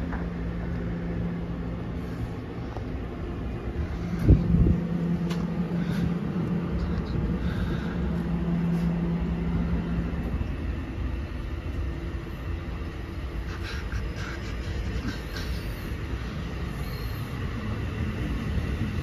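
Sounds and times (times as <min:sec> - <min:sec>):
steady hum: 0:00.0 - 0:19.0
train wheels rumbling on rail: 0:00.0 - 0:19.0.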